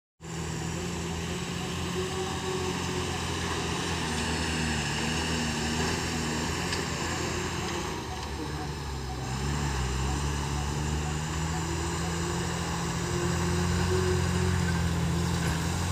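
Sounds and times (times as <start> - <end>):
diesel truck engine droning: 0.2 - 15.9.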